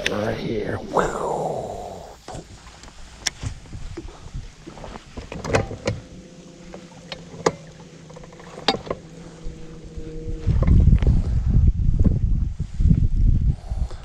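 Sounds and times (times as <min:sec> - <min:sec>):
faint motor hum: 0:00.0 - 0:12.4.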